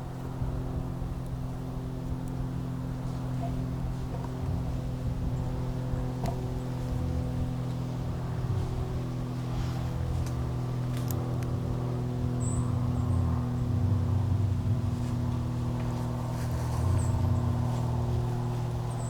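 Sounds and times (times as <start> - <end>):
engine drone: 0.0 - 19.0
low rumble: 0.0 - 19.0.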